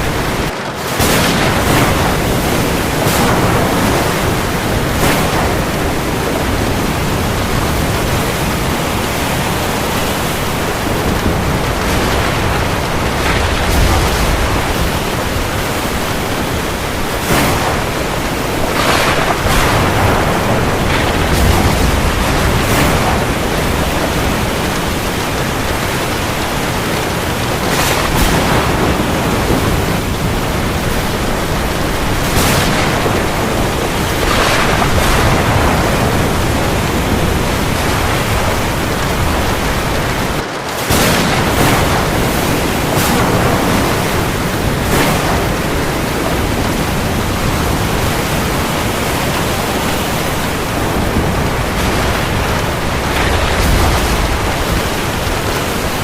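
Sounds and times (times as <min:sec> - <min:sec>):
heavy rain falling on sea: 0:00.0 - 0:56.0.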